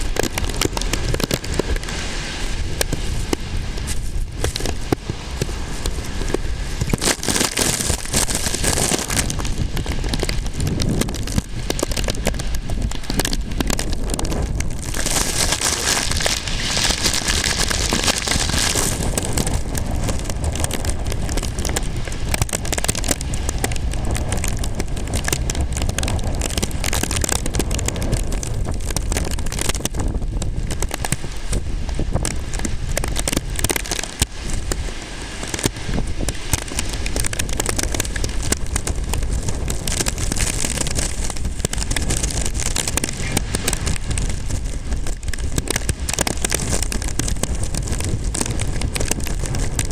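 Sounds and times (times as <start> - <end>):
rain: 0.0 - 49.9
wind: 0.0 - 49.9.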